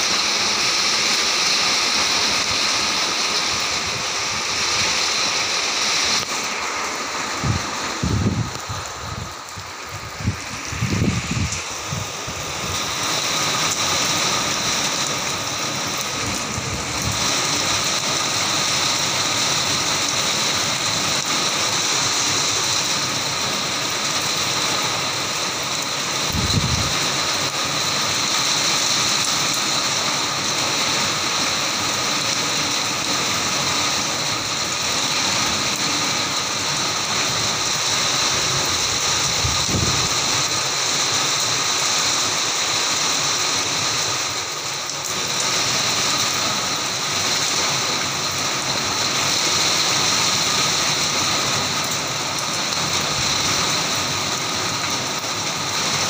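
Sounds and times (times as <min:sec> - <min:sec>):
heavy rain on concrete roof: 0:00.0 - 0:56.0.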